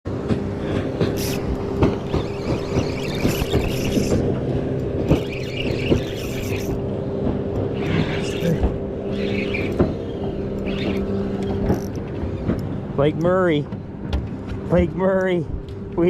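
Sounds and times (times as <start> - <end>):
boat engine humming: 0.1 - 16.0.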